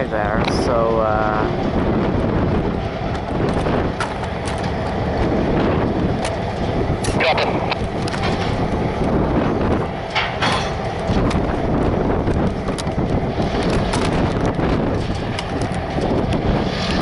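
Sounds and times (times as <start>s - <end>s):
freight train rumble: 0.0s - 17.0s
wind buffeting microphone: 0.0s - 17.0s.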